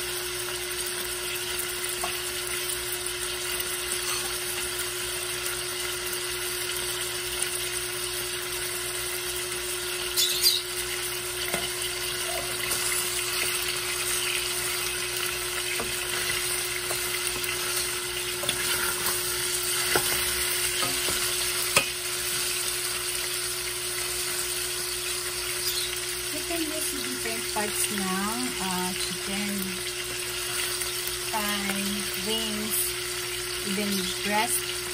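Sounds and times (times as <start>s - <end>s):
chicken sizzling in oil: 0.0s - 34.9s.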